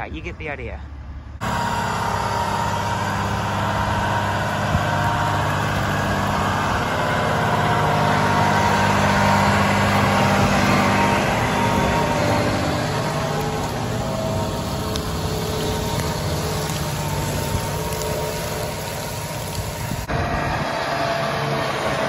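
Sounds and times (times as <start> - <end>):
tractor diesel engine under load: 1.0 - 22.0.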